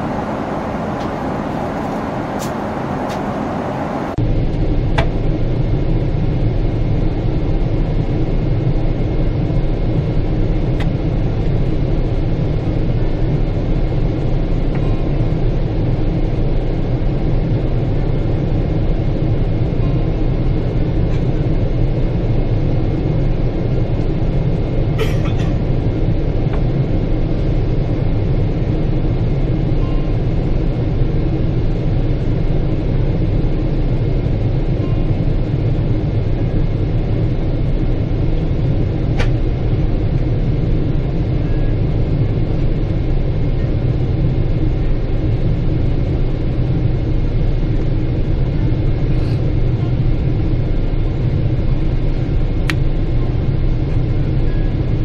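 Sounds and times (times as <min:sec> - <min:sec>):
aircraft cabin rumble: 0:00.0 - 0:55.0.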